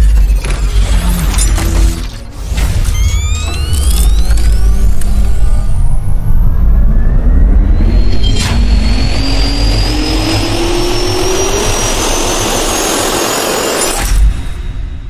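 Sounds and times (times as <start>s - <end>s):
jet turbine spooling up: 2.5s - 14.8s.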